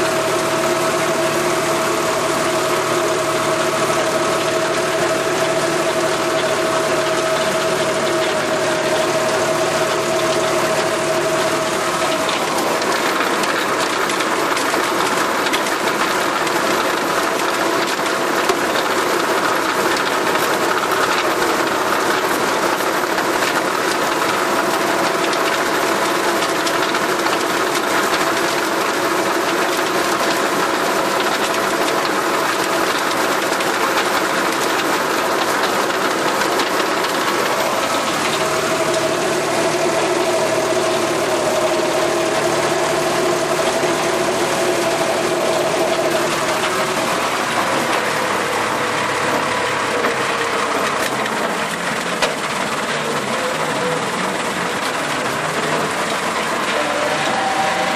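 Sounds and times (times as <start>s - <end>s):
rotary tiller in soil: 0.0s - 57.9s
tractor diesel engine under load: 0.0s - 57.9s.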